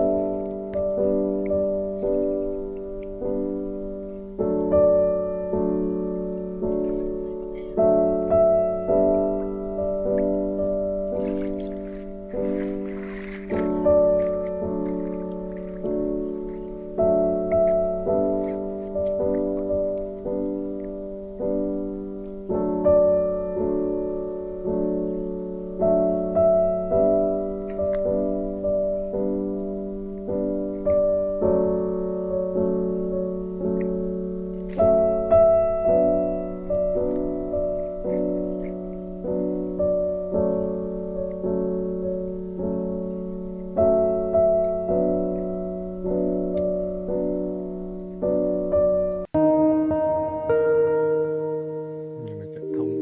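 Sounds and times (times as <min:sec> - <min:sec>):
slow piano chords: 0:00.0 - 0:53.0.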